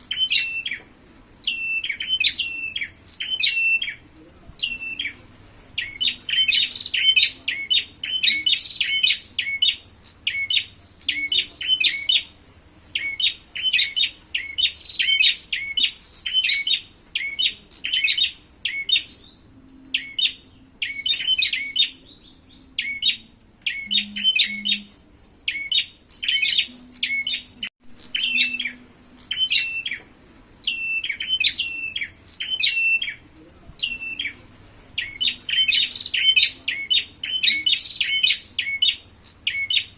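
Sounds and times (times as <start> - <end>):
birds chirping sharply: 0.0 - 39.9.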